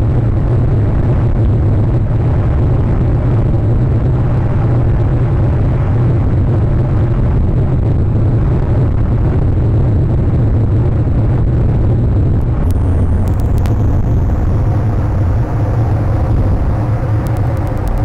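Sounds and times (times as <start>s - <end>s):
loud low rumble: 0.0s - 18.0s.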